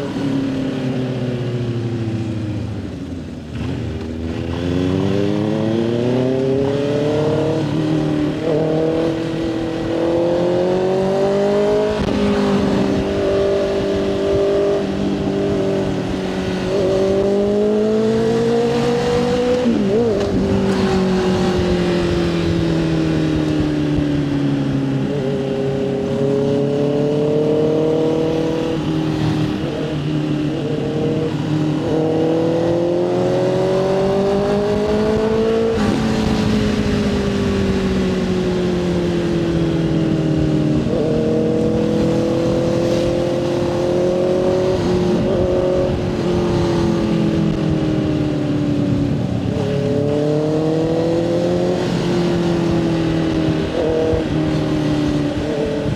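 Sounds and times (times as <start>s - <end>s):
motorcycle engine accelerating: 0.0s - 55.9s
wind noise: 3.6s - 55.9s.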